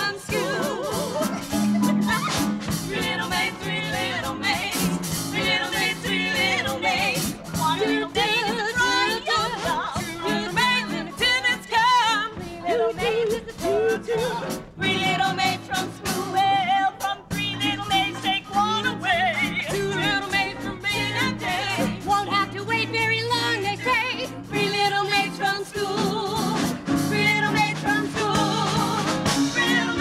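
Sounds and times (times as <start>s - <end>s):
band with percussive beat: 0.0s - 30.0s
singers with wide vibrato: 0.0s - 30.0s.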